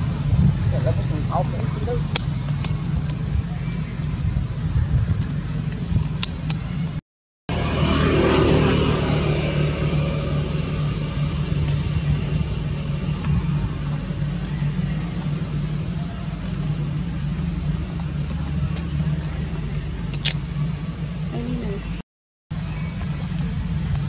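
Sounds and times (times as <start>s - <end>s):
rush of noise: 0.0s - 22.0s
motor engine humming: 0.0s - 24.0s.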